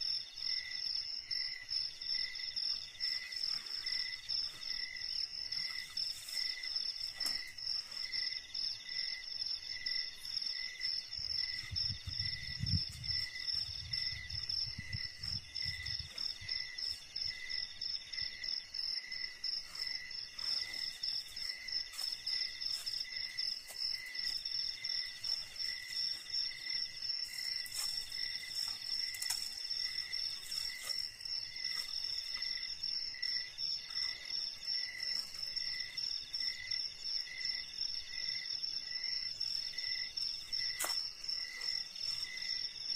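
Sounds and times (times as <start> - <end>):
insect chirping: 0.0 - 42.9.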